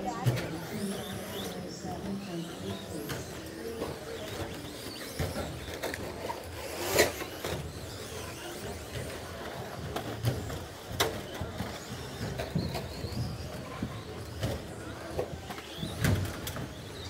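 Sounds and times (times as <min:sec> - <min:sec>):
rc truck motors and tyres: 0:00.0 - 0:17.0.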